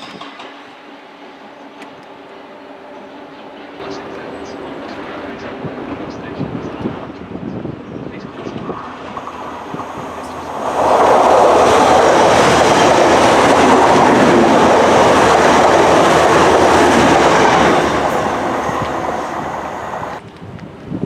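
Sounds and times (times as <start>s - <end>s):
train wheels on rails: 0.0s - 20.9s.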